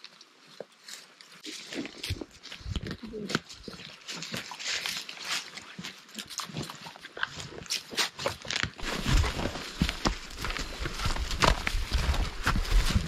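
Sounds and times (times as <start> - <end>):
brushing through undergrowth: 0.8 - 13.0
footsteps crunching leaf litter: 0.8 - 13.0.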